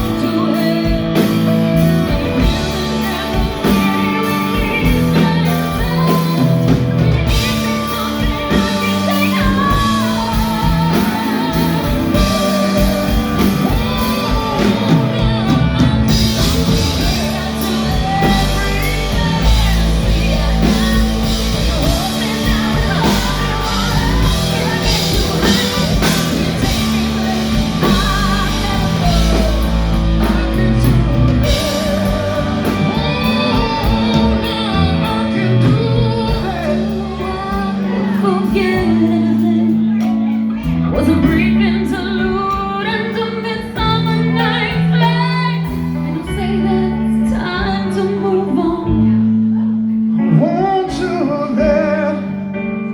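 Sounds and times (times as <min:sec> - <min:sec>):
live rock band playing: 0:00.0 - 0:52.9
person singing: 0:00.0 - 0:52.9.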